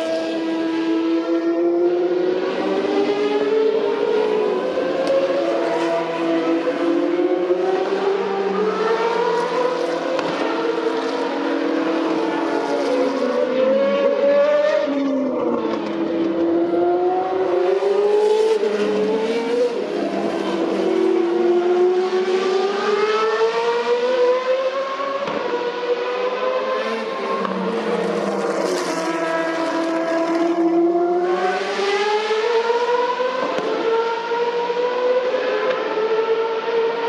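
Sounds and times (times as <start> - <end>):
racing car engines at high revs: 0.0 - 37.0.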